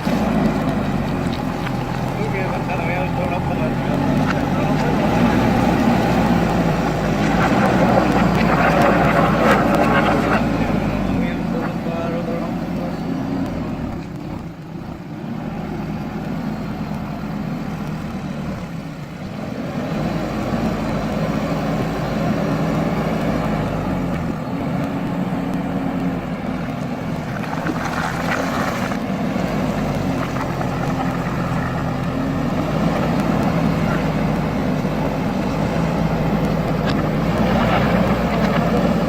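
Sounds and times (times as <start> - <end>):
backhoe diesel engine running: 0.0 - 39.0.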